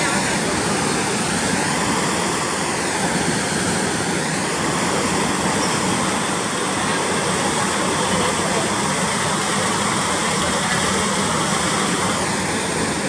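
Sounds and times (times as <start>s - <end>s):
water rushing through sluices: 0.0s - 13.0s.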